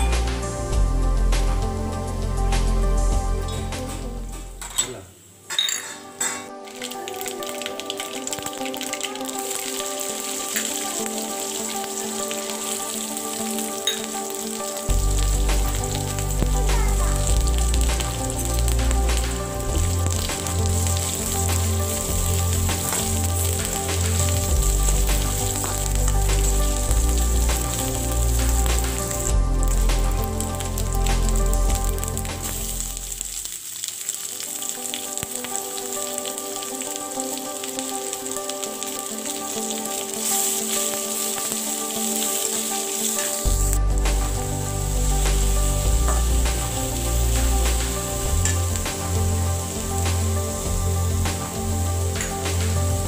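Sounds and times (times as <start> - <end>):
background music: 0.0 - 53.0
seeds sizzling in hot oil: 5.4 - 53.0.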